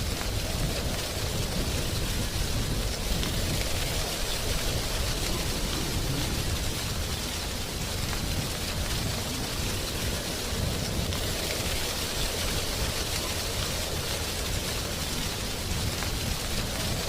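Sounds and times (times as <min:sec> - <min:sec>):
wind rustling tree leaves: 0:00.0 - 0:17.0.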